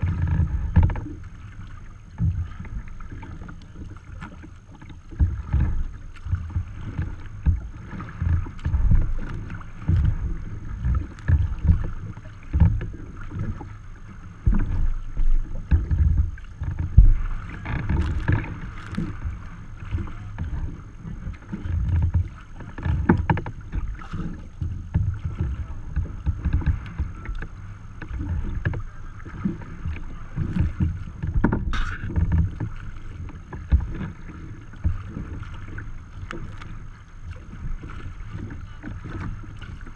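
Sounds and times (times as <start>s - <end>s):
water lapping against hull: 0.0s - 39.9s.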